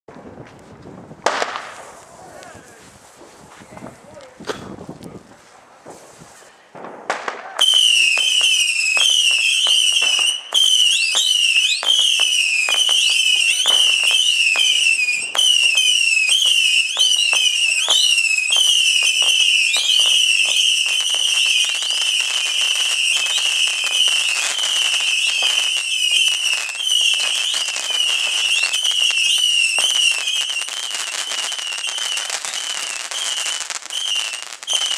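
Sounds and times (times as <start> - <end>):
firework cracks and pops: 0.1 - 34.9
whistling firework shots: 6.8 - 34.9.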